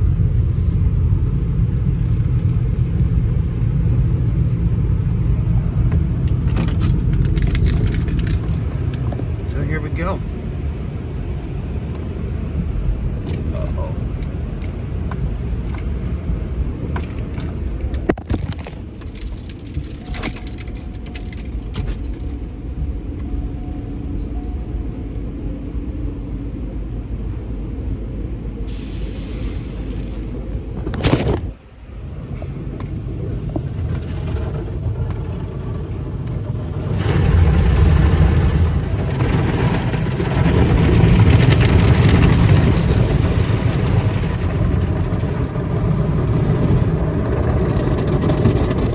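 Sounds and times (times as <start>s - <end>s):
car wash machinery rumbling: 0.0s - 48.9s.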